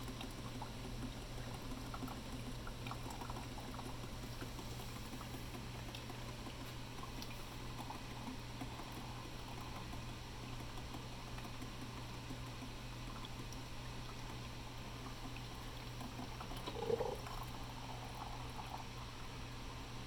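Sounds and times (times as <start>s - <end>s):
coffee maker bubbling and gurgling: 0.0s - 20.0s.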